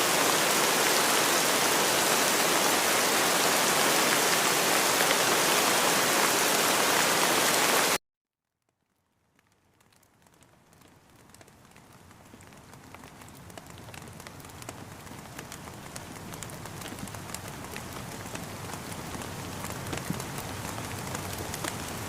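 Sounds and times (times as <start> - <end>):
steady rain falling: 0.0 - 8.0, 8.8 - 22.0.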